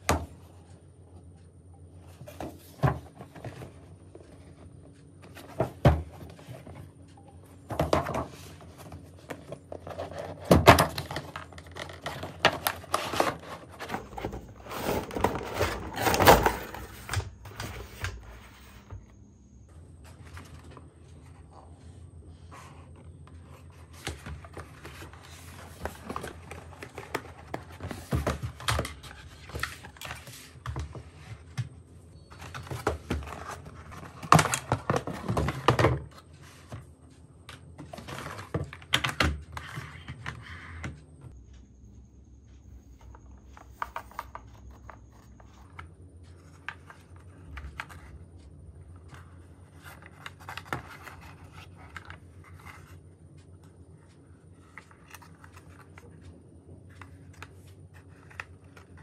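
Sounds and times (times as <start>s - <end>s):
cardboard and plastic rustling: 2.0s - 19.1s, 20.0s - 41.0s, 43.0s - 59.0s.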